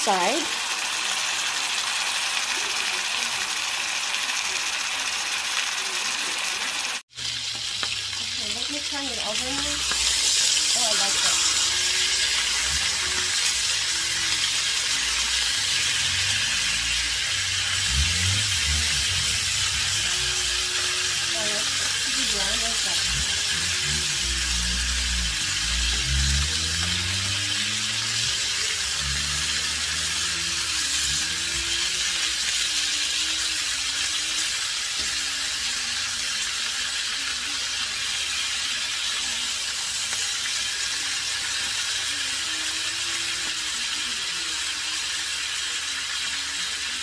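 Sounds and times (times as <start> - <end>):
chicken frying in hot oil: 0.0 - 47.0.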